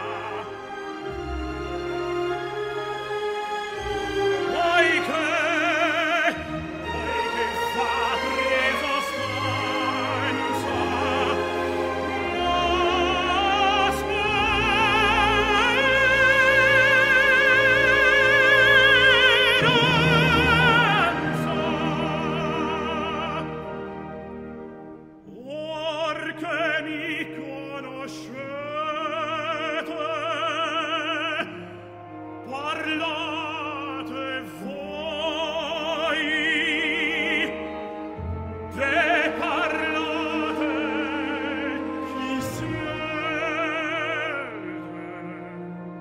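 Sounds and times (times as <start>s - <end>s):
operatic voice singing: 0.0s - 3.1s, 3.7s - 24.2s, 25.2s - 46.0s
orchestral accompaniment: 0.0s - 46.0s.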